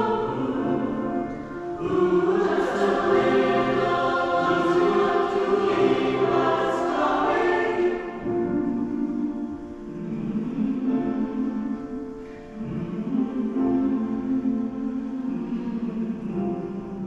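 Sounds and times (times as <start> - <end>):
mixed choir singing held notes: 0.0 - 17.0.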